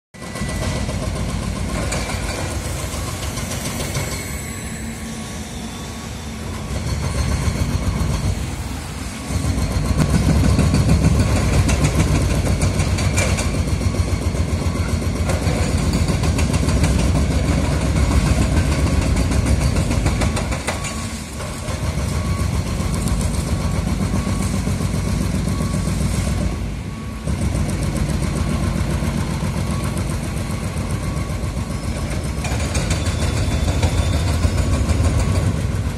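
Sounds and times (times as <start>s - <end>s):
excavator diesel engines under load: 0.2s - 35.9s.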